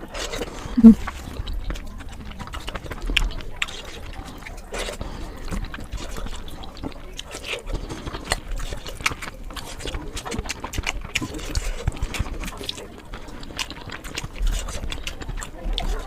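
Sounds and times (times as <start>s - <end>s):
person chewing with mouth clicks: 0.0s - 16.0s.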